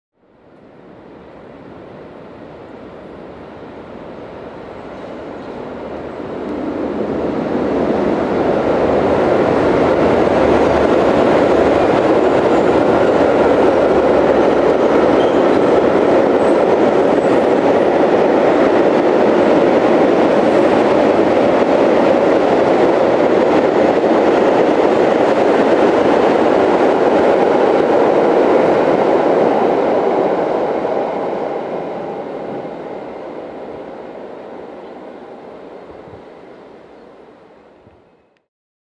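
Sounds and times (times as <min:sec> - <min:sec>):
train wheels rolling on rails: 0:00.4 - 0:38.1.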